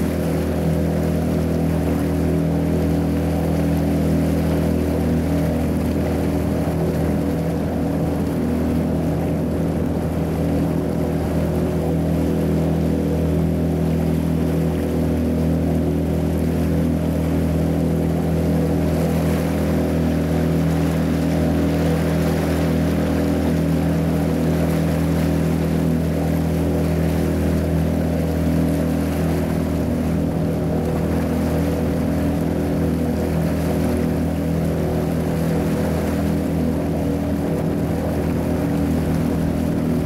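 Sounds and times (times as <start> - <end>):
boat motor humming: 0.0 - 40.0.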